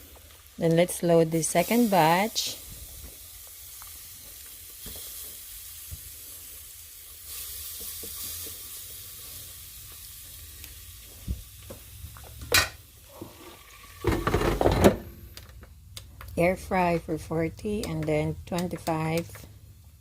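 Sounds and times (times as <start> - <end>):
ribs sizzling: 0.0 - 20.0.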